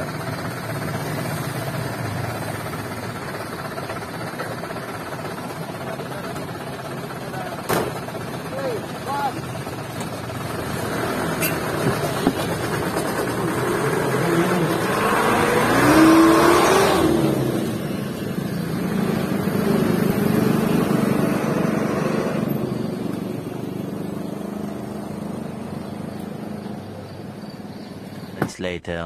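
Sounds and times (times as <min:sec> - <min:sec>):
dump truck engine revving: 0:00.0 - 0:28.6.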